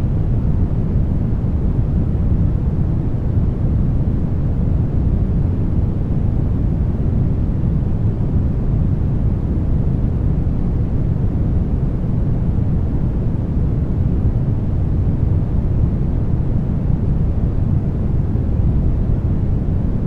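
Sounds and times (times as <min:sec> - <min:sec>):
deep rumbling brown noise: 0:00.0 - 0:20.0.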